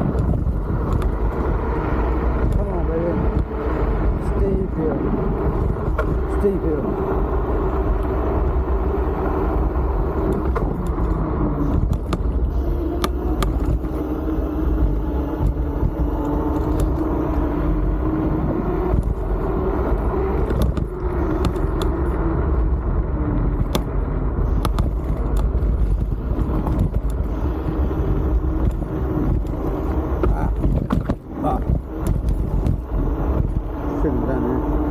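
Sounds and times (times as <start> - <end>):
scooter motor tone: 0.0 - 34.9
wind on microphone: 0.0 - 34.9.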